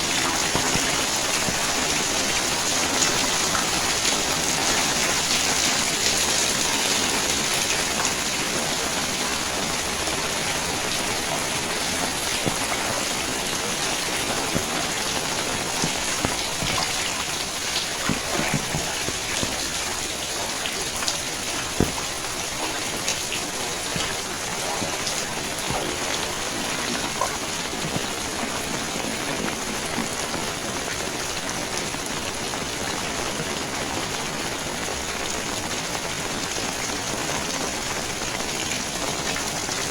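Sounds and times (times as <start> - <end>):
water drops and drips: 0.0 - 34.2
steady rain hiss: 0.0 - 39.9.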